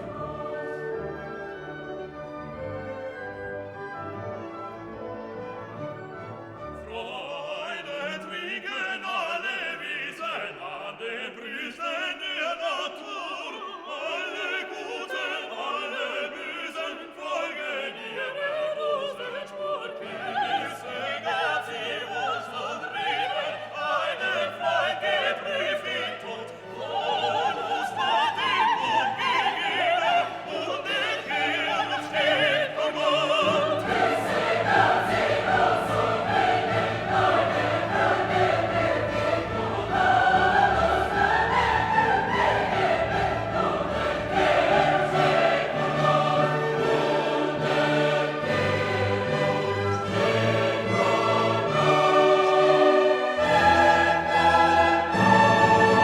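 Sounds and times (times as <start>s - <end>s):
operatic singing with choir and orchestra: 0.0s - 56.0s.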